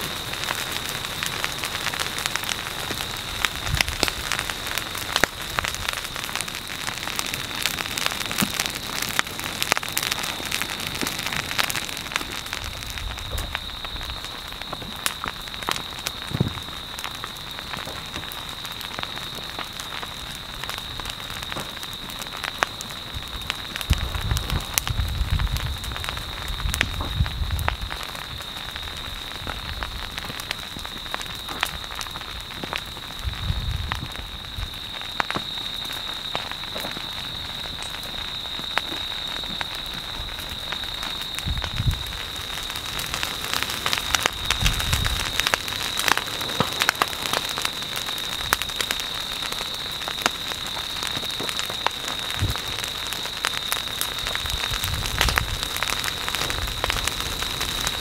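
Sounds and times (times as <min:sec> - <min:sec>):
brush fire crackling and popping: 0:00.0 - 0:58.0.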